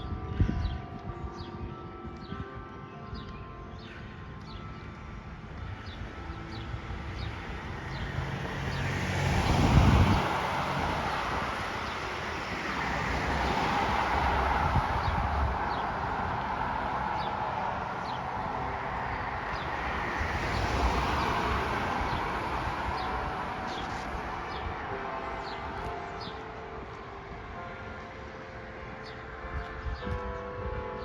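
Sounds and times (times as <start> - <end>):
passing vehicles rushing: 4.8 - 31.0.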